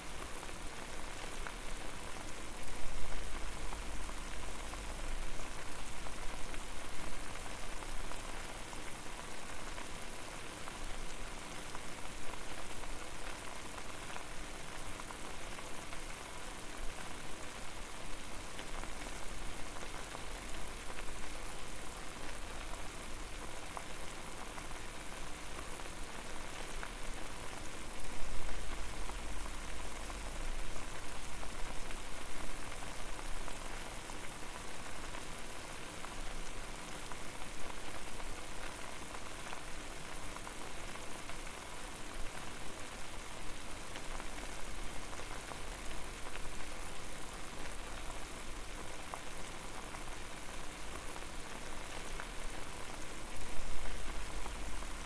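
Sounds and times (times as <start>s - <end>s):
water boiling hard: 0.1s - 55.0s.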